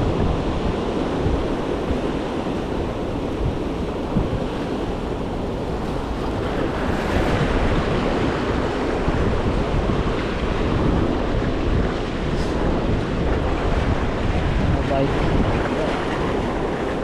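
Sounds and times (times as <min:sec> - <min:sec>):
ocean waves and surf: 0:00.0 - 0:17.0
wind buffeting the microphone: 0:00.0 - 0:17.0.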